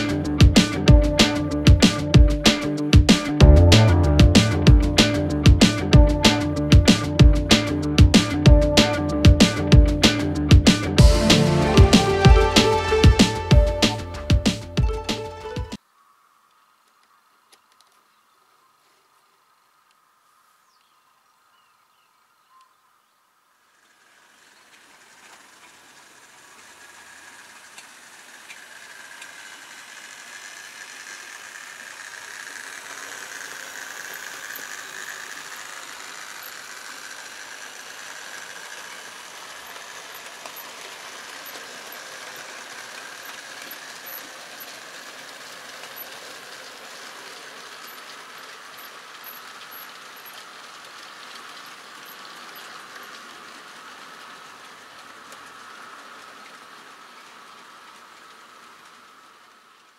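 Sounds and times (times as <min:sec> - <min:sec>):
model train motor whine: 0:00.0 - 0:15.5, 0:23.6 - 0:59.9.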